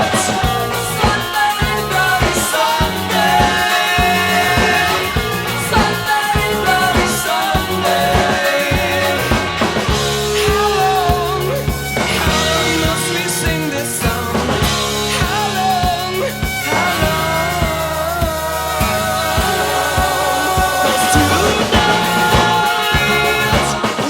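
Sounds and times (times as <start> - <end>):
bass and guitar: 0.0 - 24.0
drum beat: 0.0 - 24.0
person singing: 0.0 - 24.0.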